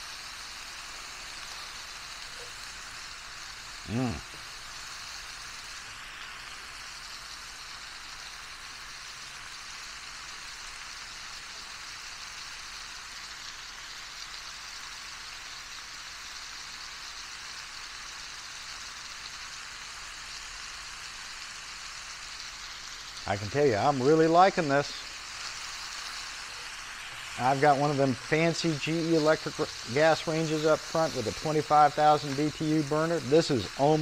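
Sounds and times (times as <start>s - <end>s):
onion sizzling in a hot pan: 0.0s - 34.0s.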